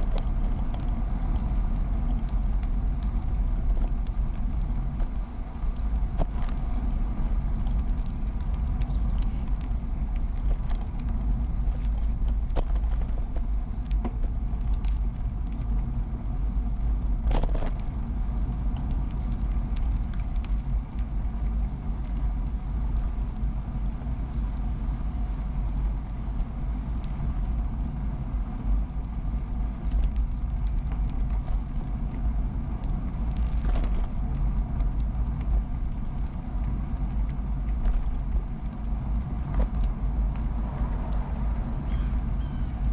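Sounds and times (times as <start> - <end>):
bicycle tyre and wind noise: 0.0 - 42.9.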